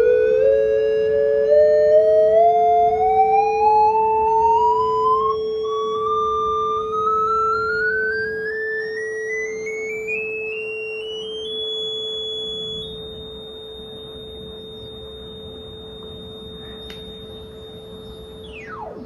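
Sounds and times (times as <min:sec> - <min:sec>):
higher test tone rising in steps: 0:00.0 - 0:19.0
steady low test tone: 0:00.0 - 0:19.0.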